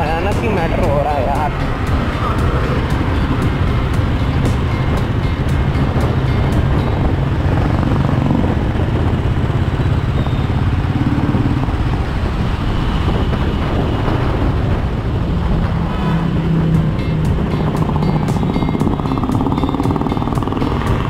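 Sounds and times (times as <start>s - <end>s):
motorcycle engine running: 0.7s - 21.0s.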